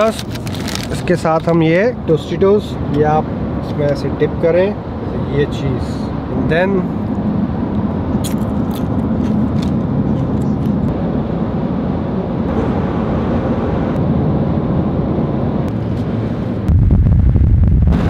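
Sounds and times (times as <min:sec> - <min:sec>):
car interior road noise: 0:00.0 - 0:18.0.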